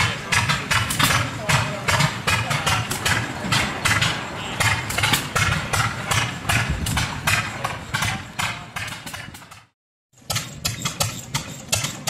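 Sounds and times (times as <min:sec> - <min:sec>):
flywheel engines popping and chugging: 0:00.0 - 0:12.0.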